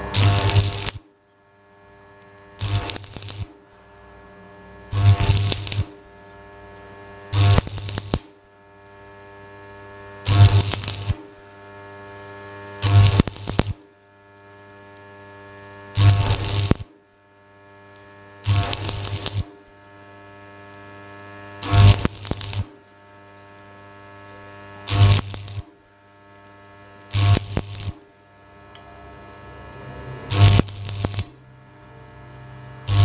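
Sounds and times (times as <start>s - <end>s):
welding arc crackling: 0.0s - 1.1s, 1.7s - 33.0s
welder transformer humming: 0.0s - 33.0s.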